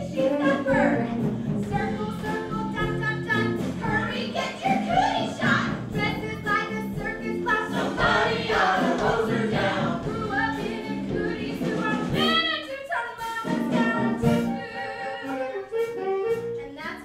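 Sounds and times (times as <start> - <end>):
instrumental accompaniment: 0.0 - 17.0.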